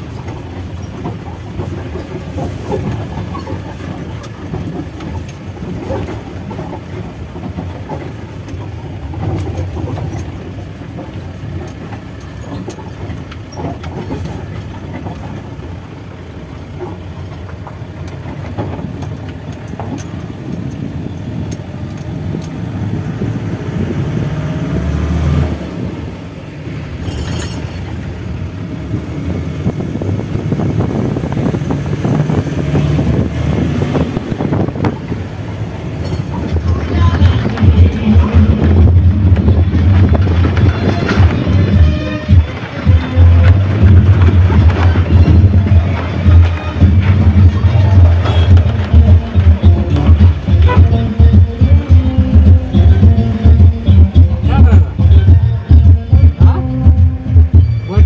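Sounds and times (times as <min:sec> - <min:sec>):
truck engine and road rumble: 0:00.0 - 0:58.0
vehicle rattling and knocking: 0:00.0 - 0:58.0.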